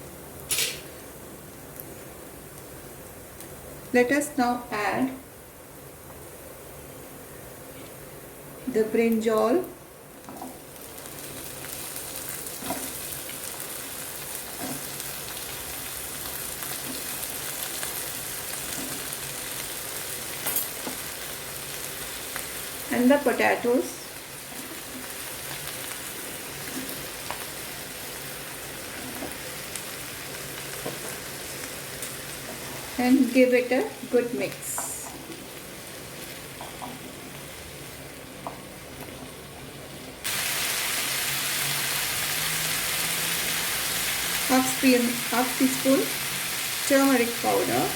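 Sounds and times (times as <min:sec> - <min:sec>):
vegetables sizzling in oil: 0:00.0 - 0:05.8, 0:06.6 - 0:47.9.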